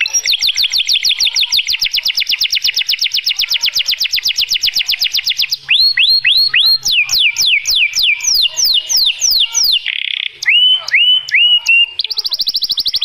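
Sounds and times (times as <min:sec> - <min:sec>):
canary singing trill: 0:00.0 - 0:13.0.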